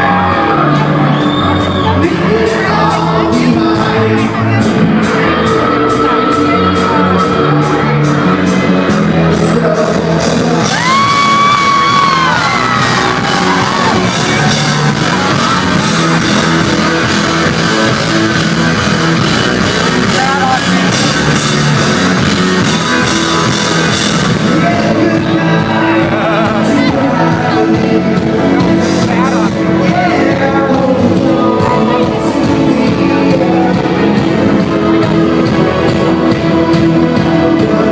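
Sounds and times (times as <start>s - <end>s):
live rock band with singing: 0.0s - 37.9s.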